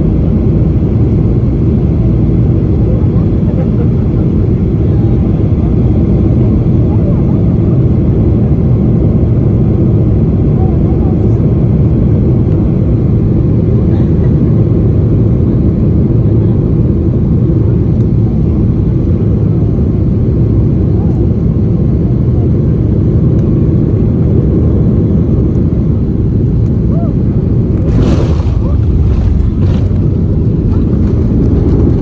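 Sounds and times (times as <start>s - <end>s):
jet airliner rumble: 0.0s - 32.0s.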